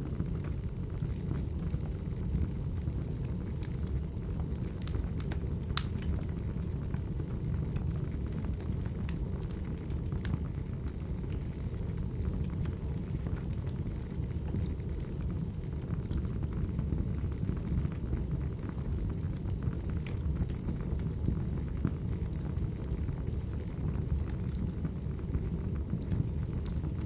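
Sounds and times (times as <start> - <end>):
fire crackling and popping: 0.0 - 27.0
fire flames rumbling: 0.0 - 27.0.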